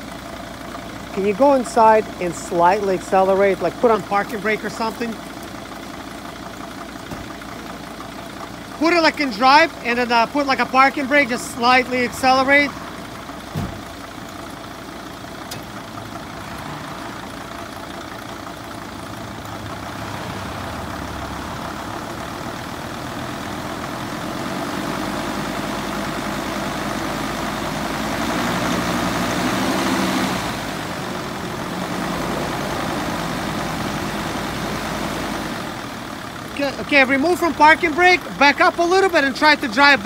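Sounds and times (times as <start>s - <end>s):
diesel engine revving: 0.0s - 40.0s.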